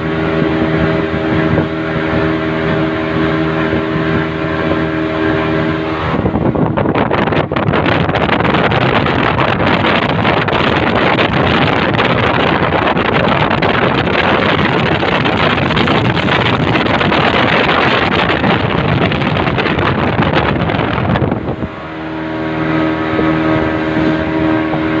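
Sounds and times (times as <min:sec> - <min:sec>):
outboard engine running: 0:00.0 - 0:25.0
rushing wind and water: 0:00.0 - 0:25.0.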